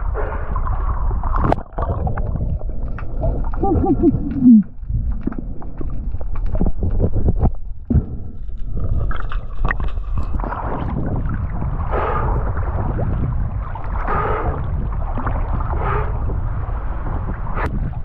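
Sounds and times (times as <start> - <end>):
seawater sloshing and gurgling: 0.0 - 7.7, 8.4 - 18.0
low rumble: 0.0 - 18.0
wind buffeting microphone: 0.0 - 18.0.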